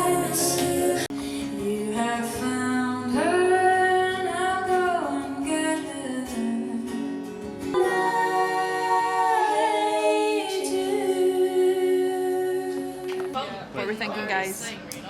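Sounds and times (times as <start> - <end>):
acoustic guitar: 0.0 - 14.6.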